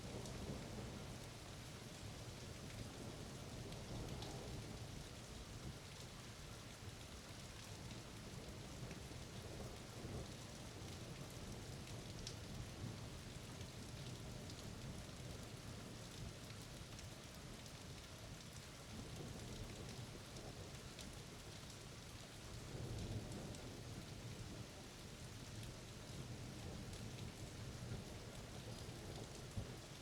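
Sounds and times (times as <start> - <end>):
low rumble of thunder: 0.0 - 6.0, 7.6 - 16.4, 18.9 - 30.0
steady rain falling: 0.0 - 30.0.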